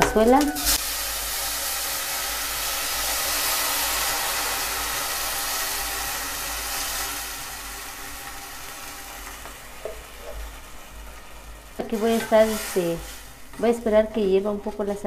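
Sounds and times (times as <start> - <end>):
salsa sizzling in hot oil: 0.1 - 15.0.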